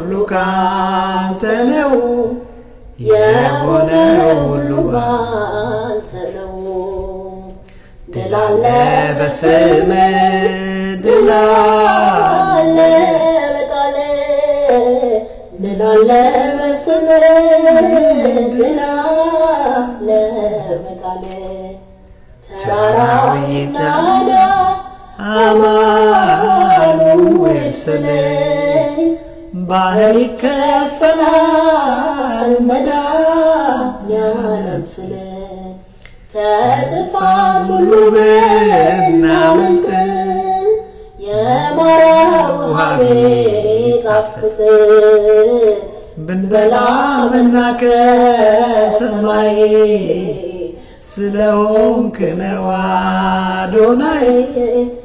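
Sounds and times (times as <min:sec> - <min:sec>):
man singing a religious chant: 0:00.0 - 0:21.8, 0:22.4 - 0:35.8, 0:36.4 - 0:55.0.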